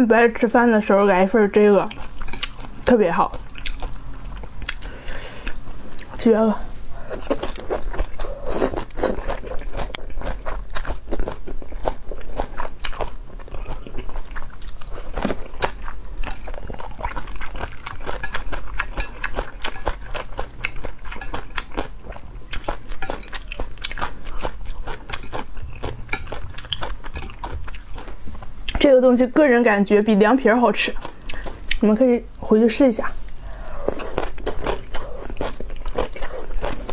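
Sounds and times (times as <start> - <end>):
wet chewing with crunches: 1.8 - 28.8, 30.9 - 31.9, 33.1 - 36.9.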